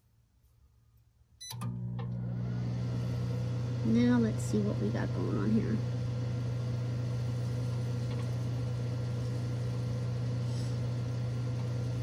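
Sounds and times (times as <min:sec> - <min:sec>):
microwave oven humming: 0:01.4 - 0:12.0.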